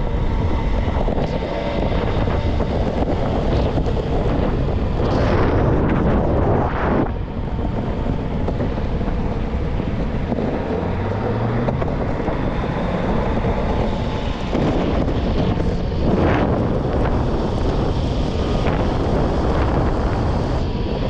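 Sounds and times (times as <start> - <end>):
skateboard wheels rumbling: 0.0 - 21.0
wind on microphone: 0.0 - 21.0.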